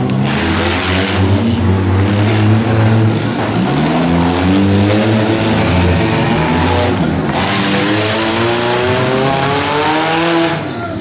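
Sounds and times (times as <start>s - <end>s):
race car engines running: 0.0s - 11.0s.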